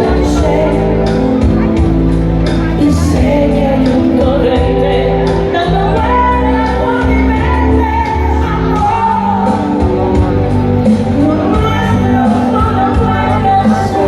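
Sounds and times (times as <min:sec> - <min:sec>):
held bass notes: 0:00.0 - 0:14.0.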